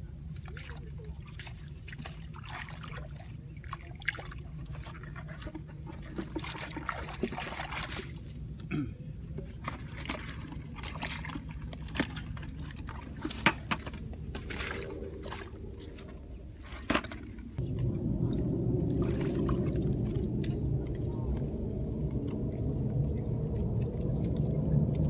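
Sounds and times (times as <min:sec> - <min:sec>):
muddy water sloshing and splashing: 0:00.0 - 0:25.0.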